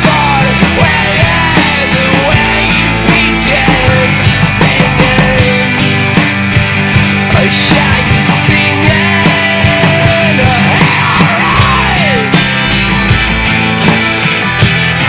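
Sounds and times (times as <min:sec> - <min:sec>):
bass guitar: 0:00.0 - 0:15.0
drums: 0:00.0 - 0:15.0
sliding lead guitar line: 0:00.0 - 0:15.0.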